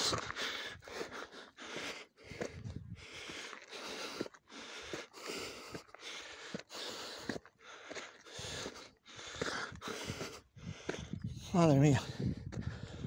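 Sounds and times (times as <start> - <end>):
person breathing hard: 0.0 - 11.4, 12.0 - 13.0
footsteps on dirt trail: 0.0 - 13.0.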